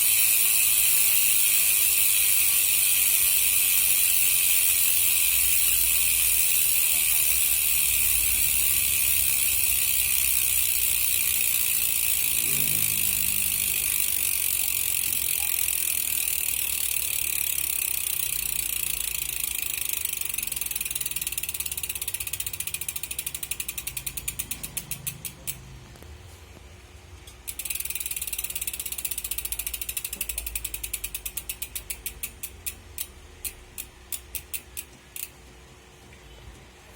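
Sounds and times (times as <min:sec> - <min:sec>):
bicycle hub freewheel buzzing: 0:00.0 - 0:26.0, 0:27.4 - 0:35.4.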